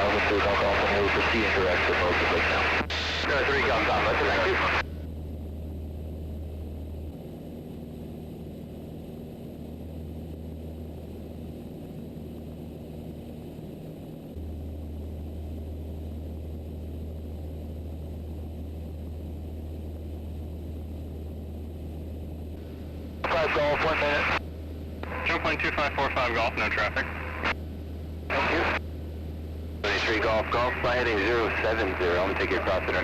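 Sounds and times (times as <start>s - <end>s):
propeller plane engine droning: 0.0s - 33.0s.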